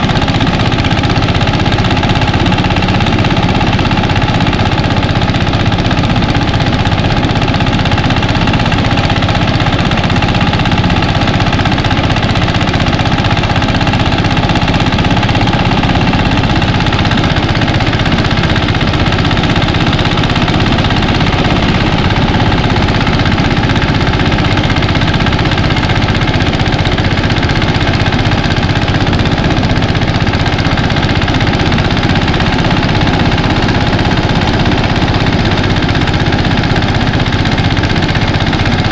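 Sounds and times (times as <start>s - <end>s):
thresher engine running: 0.0s - 38.9s.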